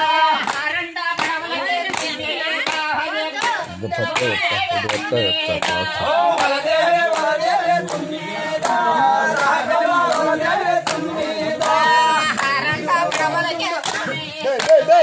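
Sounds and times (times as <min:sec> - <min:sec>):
group of people singing: 0:00.0 - 0:15.0
hand claps: 0:00.0 - 0:15.0.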